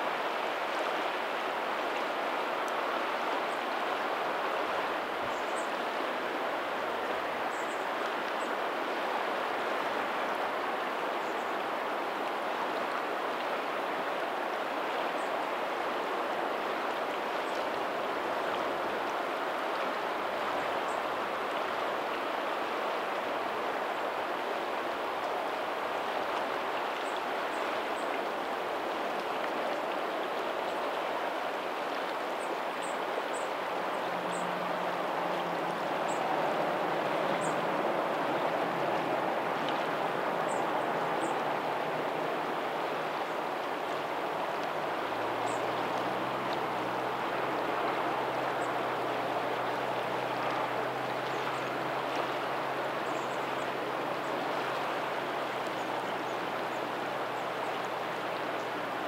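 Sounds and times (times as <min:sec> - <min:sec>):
water rushing over pebbles: 0:00.0 - 0:59.0.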